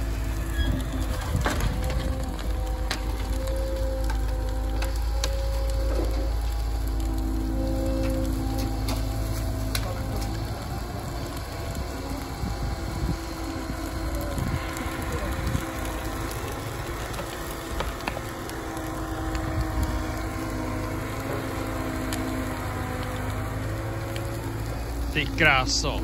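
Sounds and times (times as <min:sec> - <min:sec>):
brush fire crackling: 0:00.0 - 0:26.0
diesel engine running: 0:00.0 - 0:26.0.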